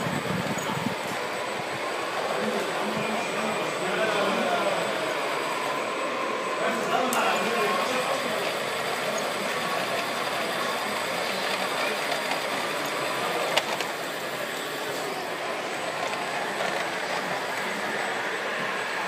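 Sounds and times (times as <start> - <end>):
model truck motor running: 0.0 - 19.0
wheels rolling on track: 0.0 - 19.0.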